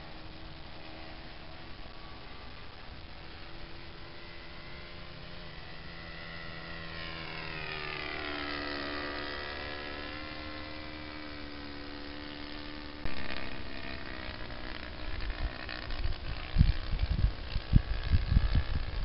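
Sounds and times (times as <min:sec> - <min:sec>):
model airplane motor droning: 0:00.0 - 0:19.0.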